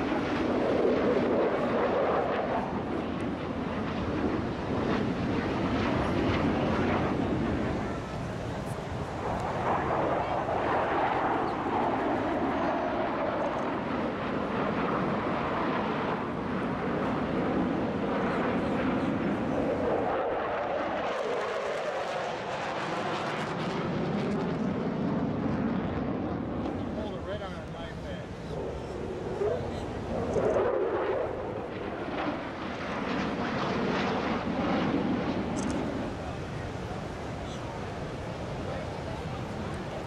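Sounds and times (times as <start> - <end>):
jet engines rushing: 0.0 - 40.0.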